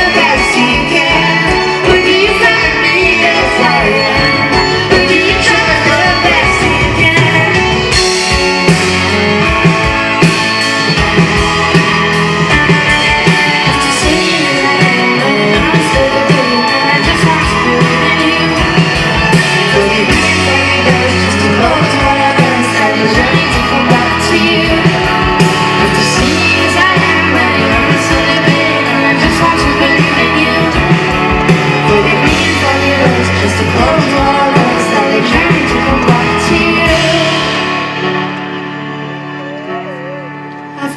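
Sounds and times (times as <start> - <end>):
steady drum beat: 0.0 - 37.8
bass notes: 0.0 - 40.9
person singing: 0.0 - 40.9.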